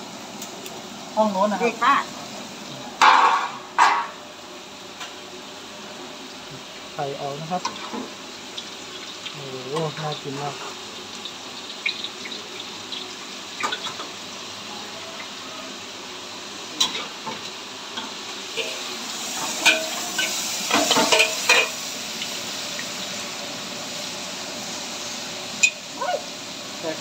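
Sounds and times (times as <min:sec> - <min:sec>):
stir-fry sizzling in a pan: 0:00.0 - 0:27.0.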